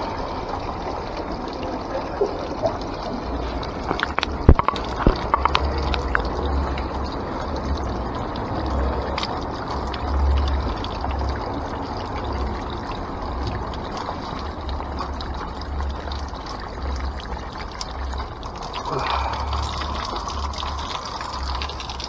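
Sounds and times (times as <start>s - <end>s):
water pouring and splashing: 0.0s - 22.0s.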